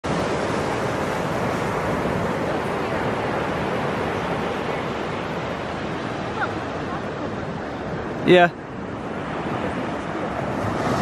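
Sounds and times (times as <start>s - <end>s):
surf washing up the beach: 0.0s - 11.0s.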